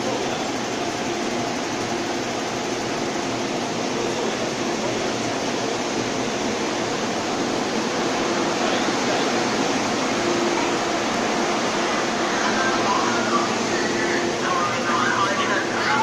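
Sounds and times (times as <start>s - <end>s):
train air conditioning hum: 0.0s - 16.0s.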